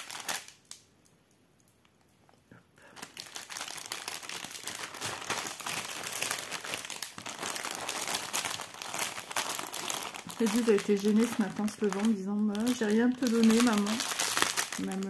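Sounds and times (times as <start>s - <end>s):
plastic packaging crinkling: 0.0s - 0.9s, 2.8s - 15.0s.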